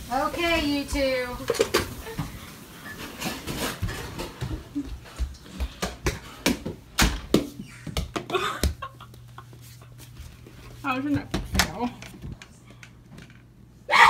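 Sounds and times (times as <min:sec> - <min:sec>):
footsteps: 0:00.2 - 0:13.2.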